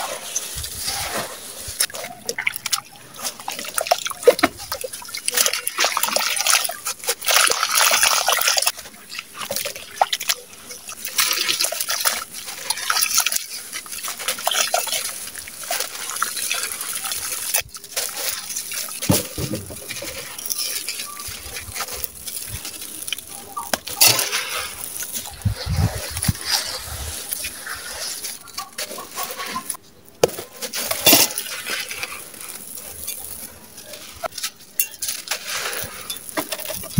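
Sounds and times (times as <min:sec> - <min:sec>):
gritty crumbling crackle: 0:00.0 - 0:36.9.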